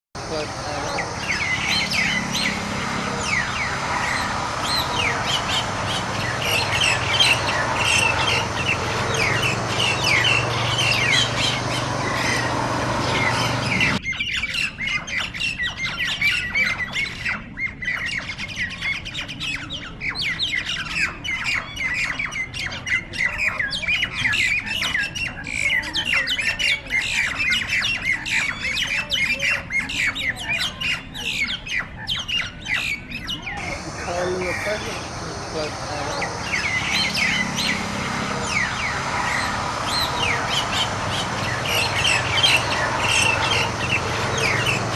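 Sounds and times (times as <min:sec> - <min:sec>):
birds squawking harshly: 0:00.2 - 0:44.9.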